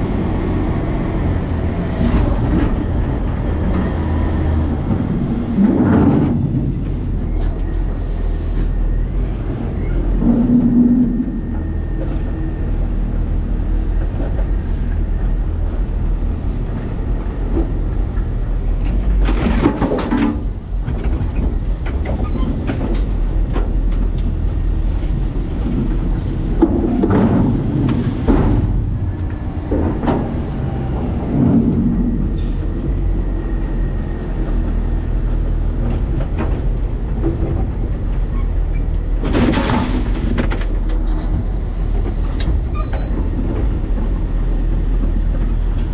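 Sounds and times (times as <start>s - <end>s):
truck engine rumble: 0.0s - 45.9s.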